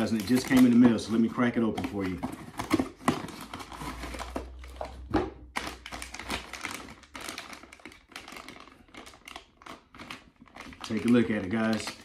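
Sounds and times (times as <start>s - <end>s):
paper and plastic tearing: 0.0s - 4.7s, 5.6s - 12.0s.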